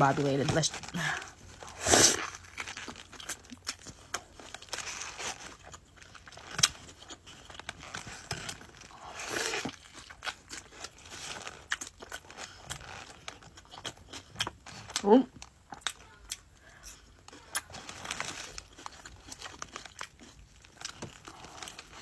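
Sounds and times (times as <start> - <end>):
eating sounds: 0.9 - 22.0.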